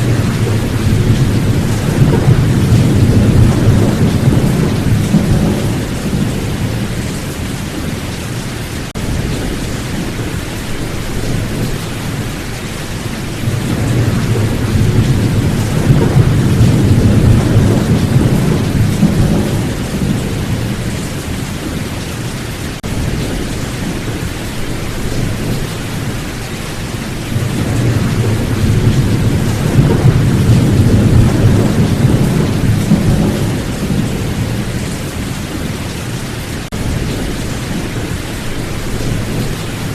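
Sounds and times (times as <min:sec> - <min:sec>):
rolling thunder: 0:00.0 - 0:39.9
steady rain: 0:00.0 - 0:39.9.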